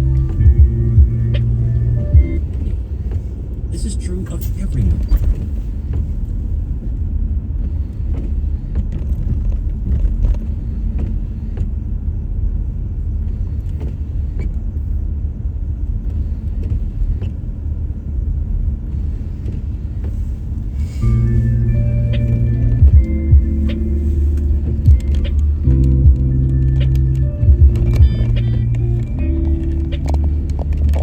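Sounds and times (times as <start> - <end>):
car driving on icy road: 0.0 - 31.0.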